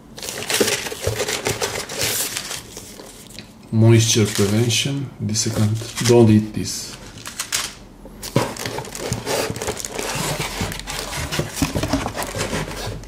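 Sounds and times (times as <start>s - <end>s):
cardboard packaging crinkling: 0.2s - 3.4s, 4.1s - 4.8s, 5.5s - 6.3s, 6.9s - 13.0s.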